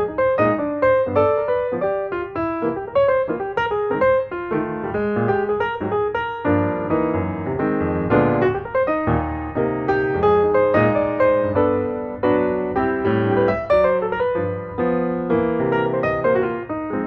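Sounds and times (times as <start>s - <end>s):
flowing piano music: 0.0s - 17.0s.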